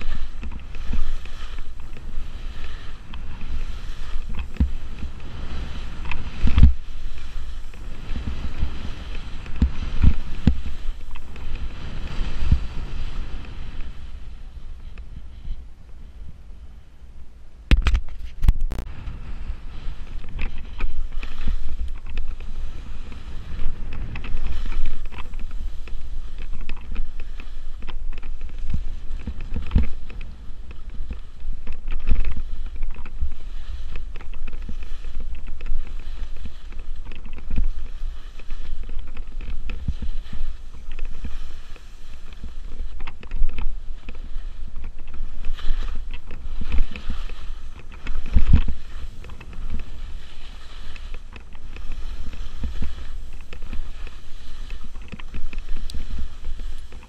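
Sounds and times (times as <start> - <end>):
skis scraping through slush: 0.0 - 15.6, 18.9 - 57.0
wind buffeting microphone: 0.0 - 57.0.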